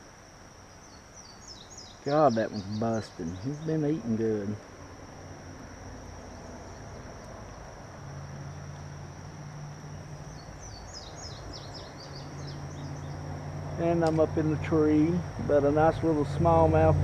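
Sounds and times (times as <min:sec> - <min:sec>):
insect drone: 0:00.0 - 0:17.0
bird chirping: 0:00.7 - 0:04.6, 0:06.1 - 0:09.1, 0:09.8 - 0:16.7.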